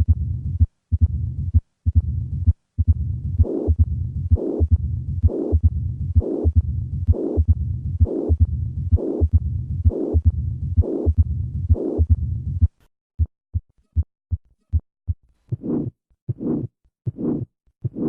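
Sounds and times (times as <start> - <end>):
heartbeat with murmur: 0.0 - 14.1, 15.5 - 18.0.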